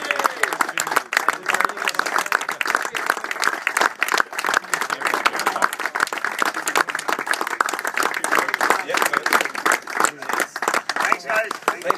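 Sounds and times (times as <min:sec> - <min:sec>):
crowd applauding: 0:00.0 - 0:11.9.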